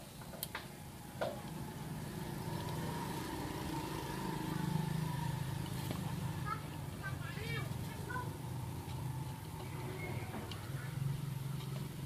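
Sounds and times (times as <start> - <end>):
motor engine running: 1.4 - 12.0.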